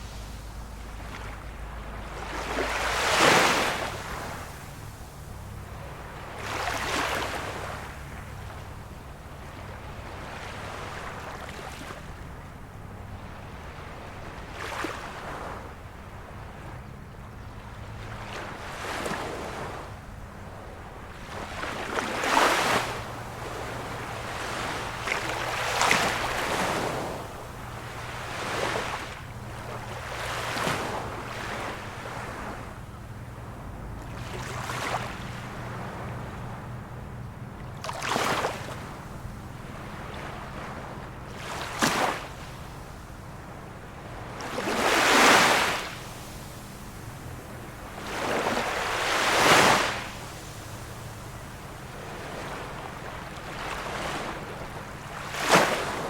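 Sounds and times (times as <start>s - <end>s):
small waves washing on shore: 0.0s - 56.0s.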